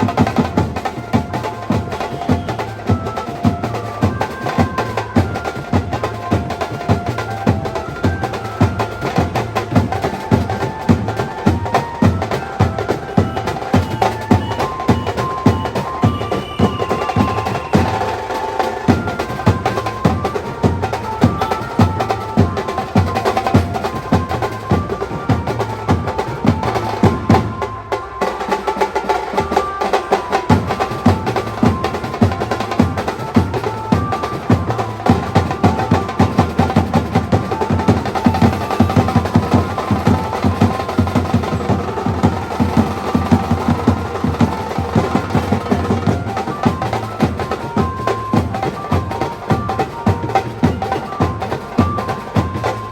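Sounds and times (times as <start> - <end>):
banjo fast melody: 0.0 - 52.9
rapid drumming: 0.0 - 52.9.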